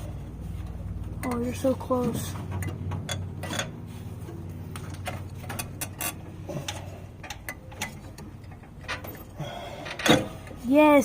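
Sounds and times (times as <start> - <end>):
light clicks and taps of metal parts: 0.5 - 10.6.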